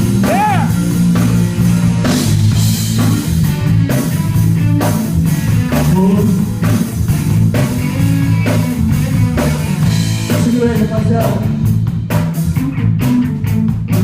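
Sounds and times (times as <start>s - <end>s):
bass guitar: 0.0s - 14.0s
drum kit steady beat: 0.0s - 14.0s
electric guitar: 0.0s - 14.0s.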